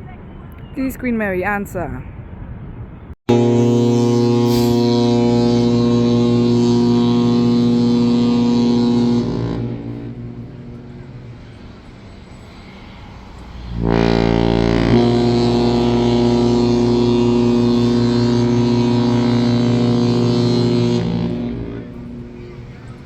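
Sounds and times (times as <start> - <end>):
deep ship horn blast: 3.3 - 23.0.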